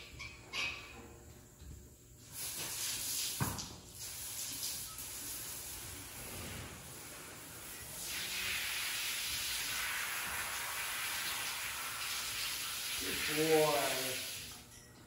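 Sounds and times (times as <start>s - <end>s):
garden hose spraying: 2.2s - 14.7s.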